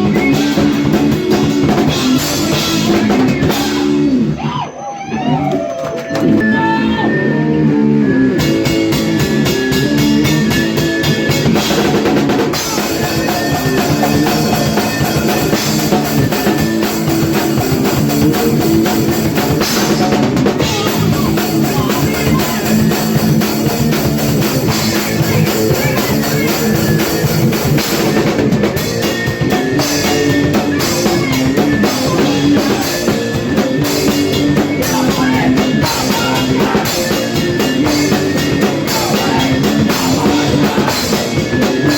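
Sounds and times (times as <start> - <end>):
fast drum kit: 0.0 - 4.4, 8.2 - 41.9
electric guitar riffs: 6.1 - 41.9.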